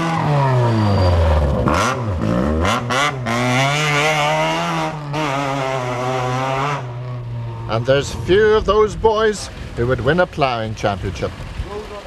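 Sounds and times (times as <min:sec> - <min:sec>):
rally car engine revving: 0:00.0 - 0:11.5.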